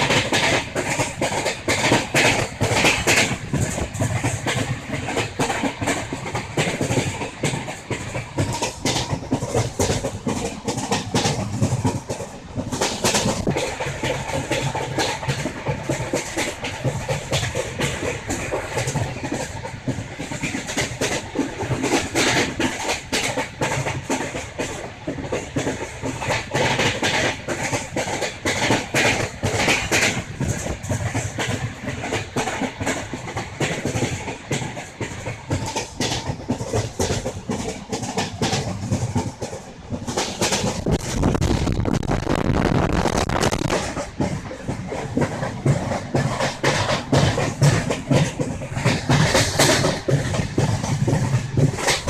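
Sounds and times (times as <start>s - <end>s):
train rumble and rush: 0.0s - 52.0s
wheels clattering over rails: 0.0s - 52.0s.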